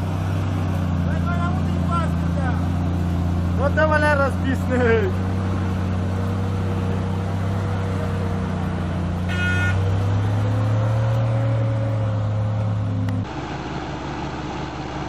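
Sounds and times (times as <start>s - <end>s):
truck engine pulling under load: 0.0s - 15.0s.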